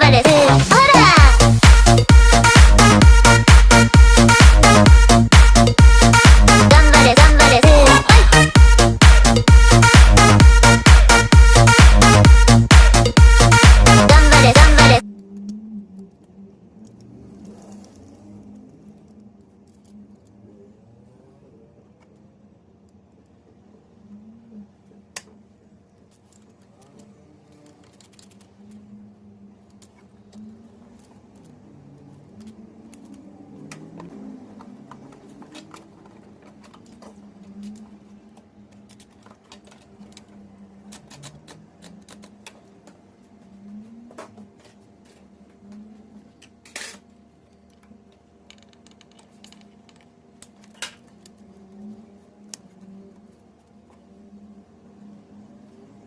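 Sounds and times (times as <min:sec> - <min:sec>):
faint low hum: 0:06.5 - 0:56.0.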